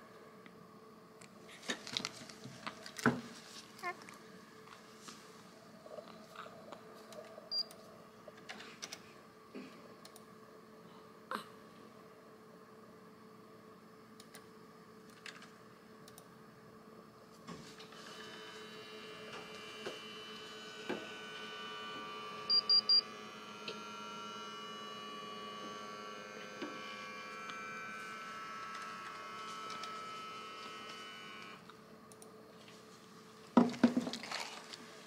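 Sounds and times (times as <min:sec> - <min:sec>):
electrical equipment hum: 0:00.0 - 0:35.0.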